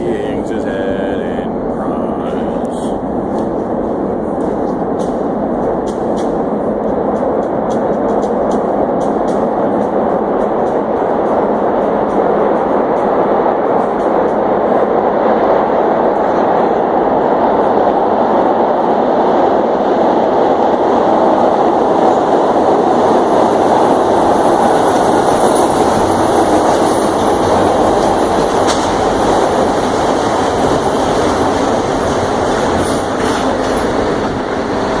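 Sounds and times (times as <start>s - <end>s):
train wheels rumbling on track: 0.0s - 35.0s.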